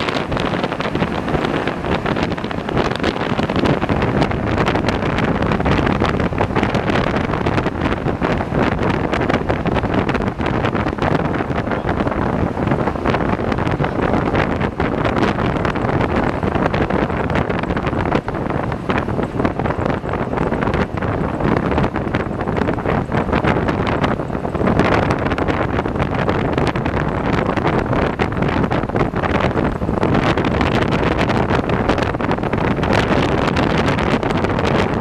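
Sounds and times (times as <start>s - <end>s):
vehicle engine running: 0.0s - 35.0s
wind buffeting microphone: 0.0s - 35.0s.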